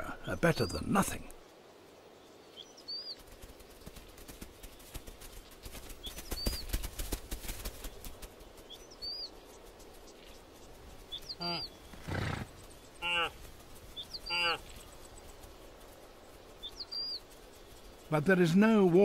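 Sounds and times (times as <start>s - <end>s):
bird chirping: 2.0s - 4.0s, 4.6s - 7.0s, 7.8s - 19.0s
hooves drumming on dry ground: 2.6s - 19.0s.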